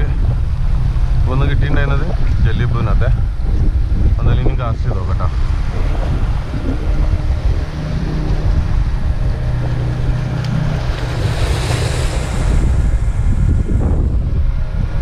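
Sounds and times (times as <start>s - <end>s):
boat engine drone: 0.0s - 15.0s
waves washing over rocks: 0.0s - 15.0s
wind buffeting microphone: 0.0s - 15.0s.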